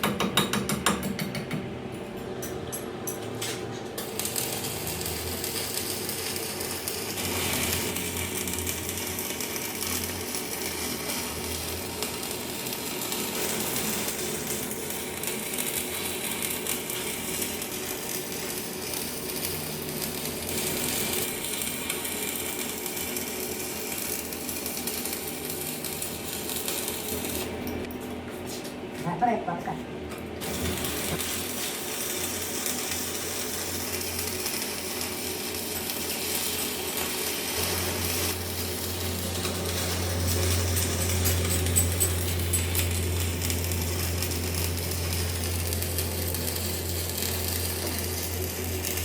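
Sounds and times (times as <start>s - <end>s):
arc welding crackle: 3.9s - 28.0s, 30.3s - 49.0s.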